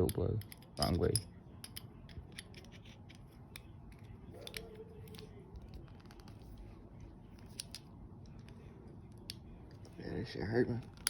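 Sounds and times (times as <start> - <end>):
pistol parts clicking and scraping: 0.0 - 6.6, 7.4 - 10.0, 10.8 - 11.0.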